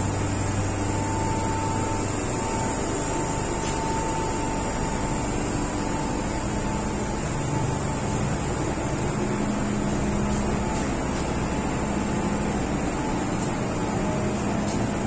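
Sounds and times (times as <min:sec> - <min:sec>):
train wheels and motors rumble: 0:00.0 - 0:15.0.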